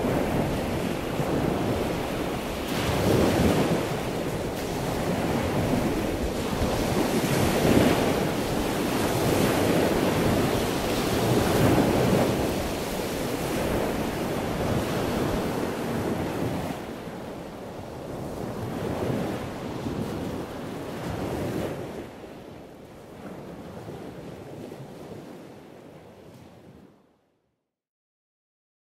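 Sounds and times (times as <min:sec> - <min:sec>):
sea waves washing in: 0:00.0 - 0:26.8
wind: 0:00.0 - 0:27.5.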